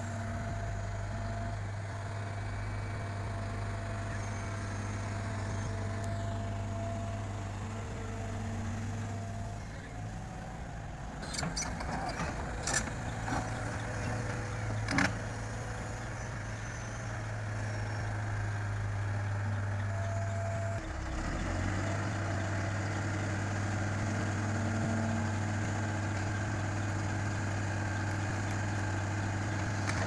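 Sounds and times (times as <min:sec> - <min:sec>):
heavy machinery diesel engine running: 0:00.0 - 0:30.0.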